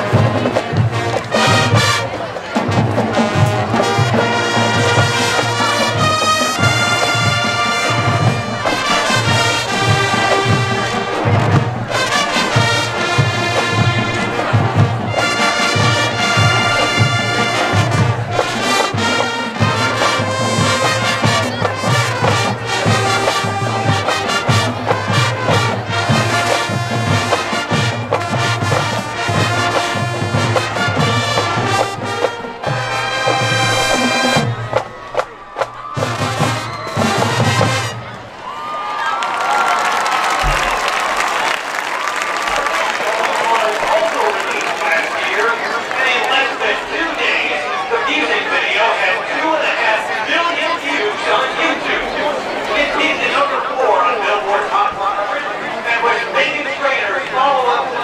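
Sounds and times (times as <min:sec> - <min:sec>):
drumline steady beat: 0:00.0 - 0:38.6, 0:39.3 - 0:48.7
marching band brass tune: 0:00.0 - 0:58.0.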